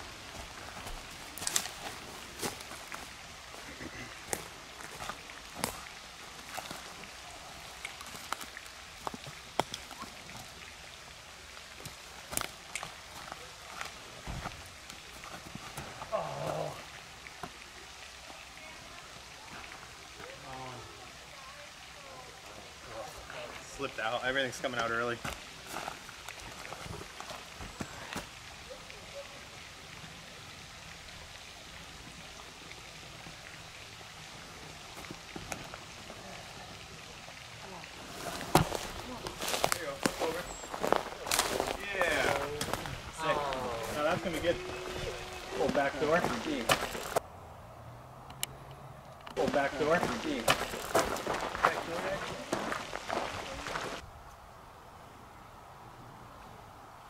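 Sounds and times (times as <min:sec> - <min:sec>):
faint outdoor background: 0:00.0 - 0:57.0.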